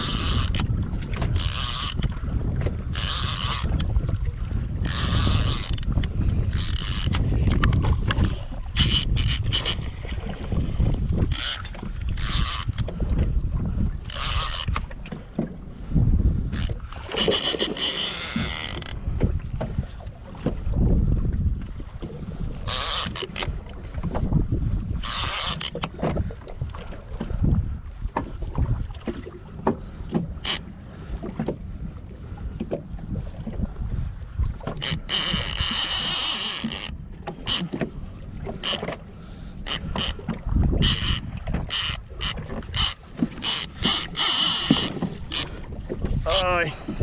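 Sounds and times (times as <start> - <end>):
wind rumbling on microphone: 0.0 - 47.0.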